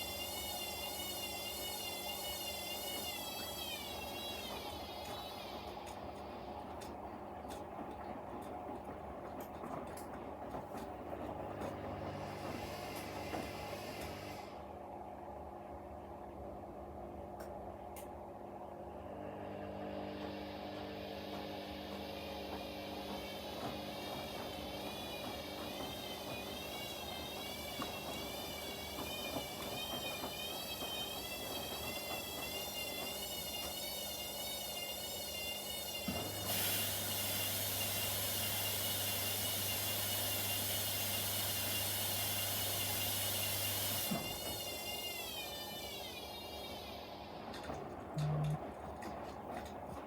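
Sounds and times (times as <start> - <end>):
washing machine motor whine: 0.0 - 50.0.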